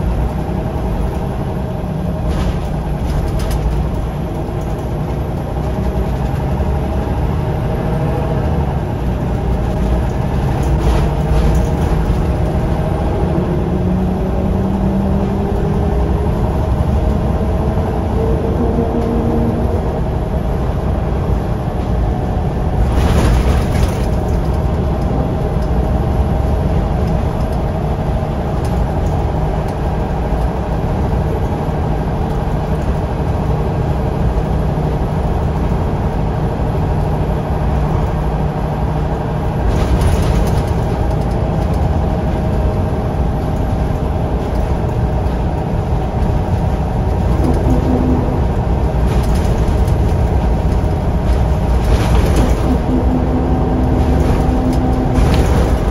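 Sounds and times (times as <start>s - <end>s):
diesel bus engine running: 0.0s - 55.9s.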